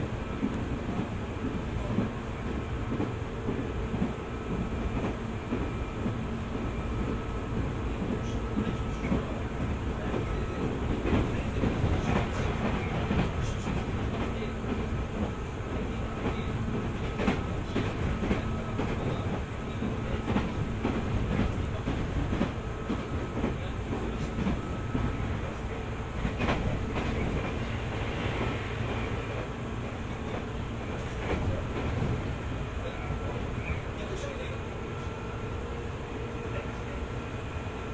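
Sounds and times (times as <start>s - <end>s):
electric train rumbling: 0.0s - 37.9s.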